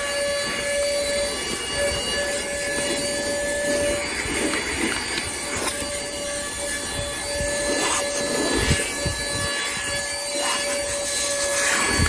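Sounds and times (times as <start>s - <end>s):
handheld vacuum whining: 0.0s - 12.0s.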